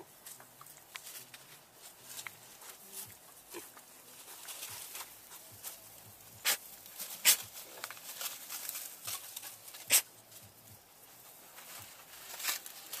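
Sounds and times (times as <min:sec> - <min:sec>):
pigs snuffling and snorting: 0:00.0 - 0:13.0.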